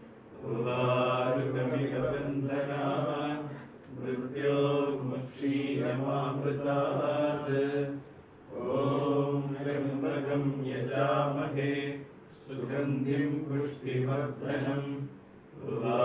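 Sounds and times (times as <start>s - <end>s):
person chanting a mantra: 0.3s - 16.0s.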